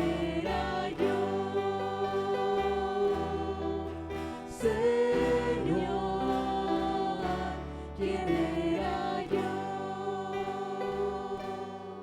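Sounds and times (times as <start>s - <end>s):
instrumental accompaniment: 0.0s - 12.0s
voices singing a hymn: 0.0s - 12.0s.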